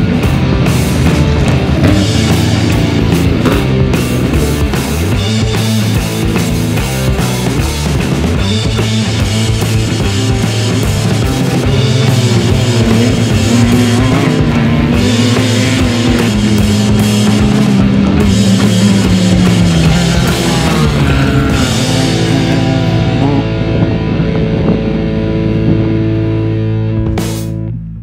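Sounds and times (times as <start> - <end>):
driving drum kit: 0.0 - 28.0
electric guitar: 0.0 - 28.0
rock music: 0.0 - 28.0.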